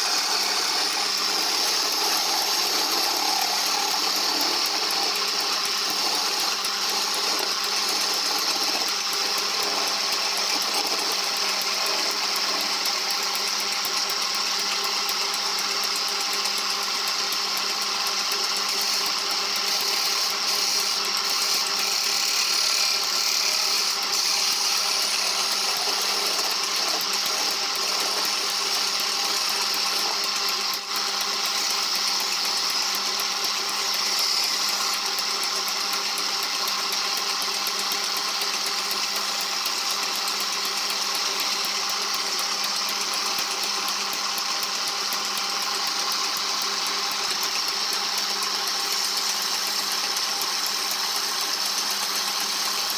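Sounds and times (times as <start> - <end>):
electric power tool working wood: 0.0 - 52.9.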